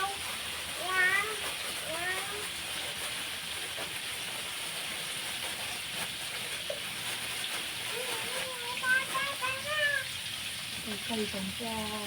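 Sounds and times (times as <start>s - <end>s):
stir-frying sizzle in a wok: 0.0s - 12.0s.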